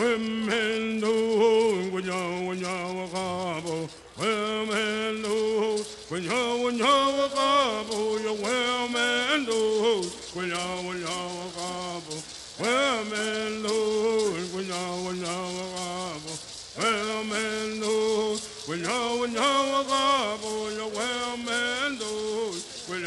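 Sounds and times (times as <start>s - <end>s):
men singing: 0.0s - 23.0s
rattles shaking: 0.0s - 23.0s.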